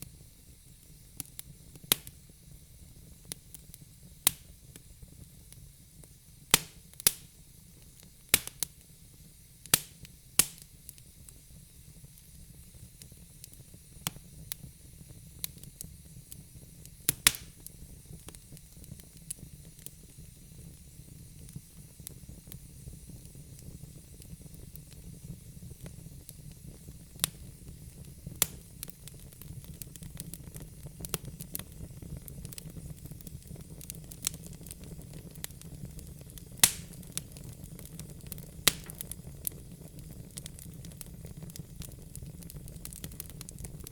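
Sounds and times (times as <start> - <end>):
fire pops and snaps: 0.0 - 2.3, 3.0 - 8.9, 9.6 - 43.9
low rumble of burning logs: 0.0 - 43.9.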